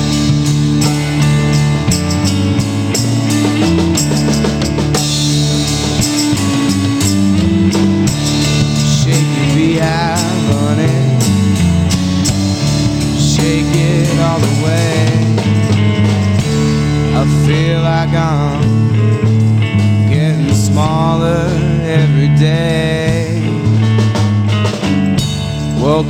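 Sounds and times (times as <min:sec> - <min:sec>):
drum kit: 0:00.0 - 0:26.0
guitars playing: 0:00.0 - 0:26.0.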